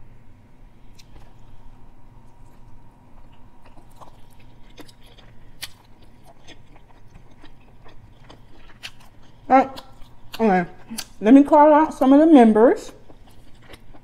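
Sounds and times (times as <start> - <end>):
person biting and chewing: 0.8 - 11.2, 13.0 - 14.0.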